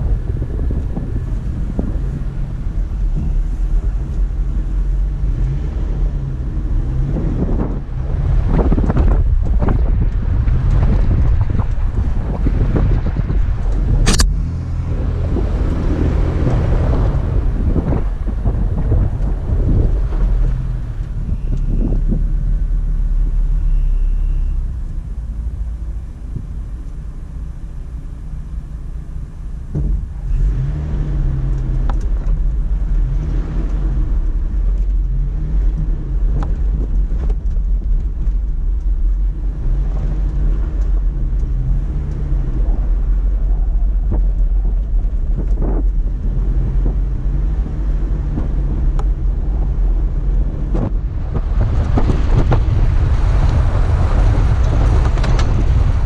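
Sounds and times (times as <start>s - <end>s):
engine revving in sand: 0.0s - 24.6s, 29.8s - 56.0s.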